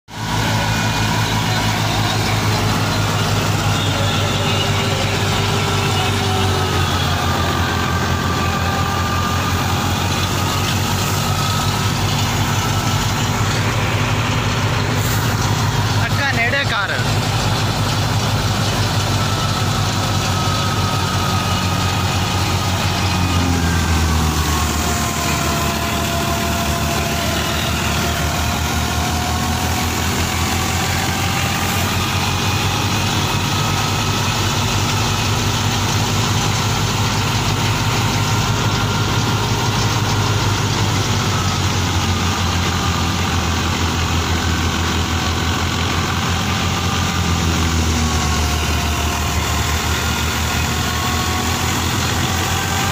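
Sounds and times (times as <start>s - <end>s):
tractor diesel engine running: 0.0s - 52.9s
faint engine whine: 0.1s - 52.9s.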